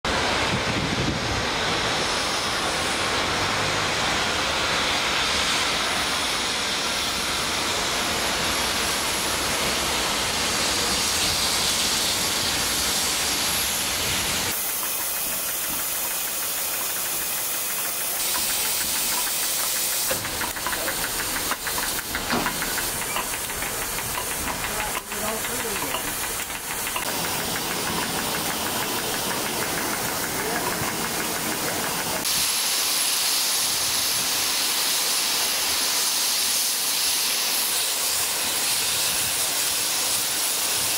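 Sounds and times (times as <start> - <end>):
low rumble of train: 0.1 - 40.9
steam locomotive hissing: 0.1 - 40.9.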